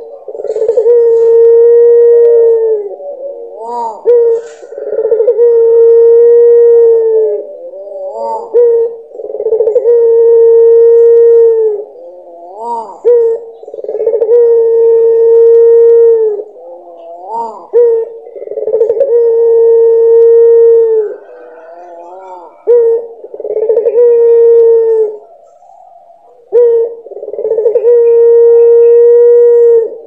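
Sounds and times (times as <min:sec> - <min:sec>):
dove cooing: 0:00.0 - 0:30.0.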